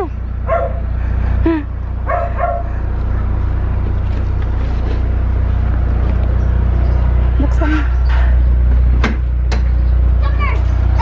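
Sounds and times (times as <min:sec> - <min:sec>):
engine idling low hum: 0:00.0 - 0:11.0.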